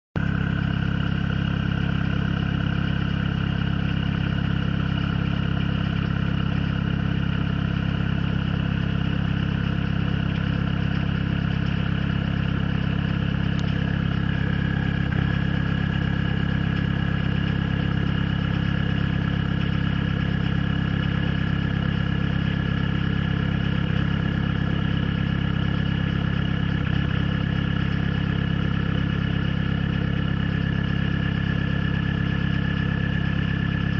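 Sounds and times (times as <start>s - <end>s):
diesel engine idling with misfire: 0.2s - 33.9s.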